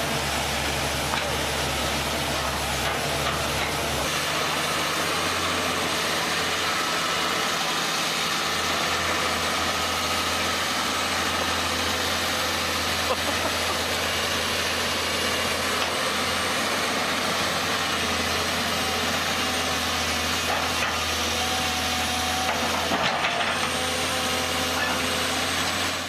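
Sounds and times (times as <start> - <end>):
excavator engine humming: 0.0 - 26.0.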